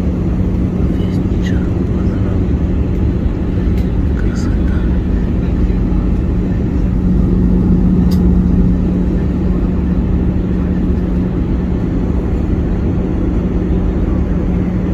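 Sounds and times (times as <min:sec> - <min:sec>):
aircraft engine drone: 0:00.0 - 0:14.9.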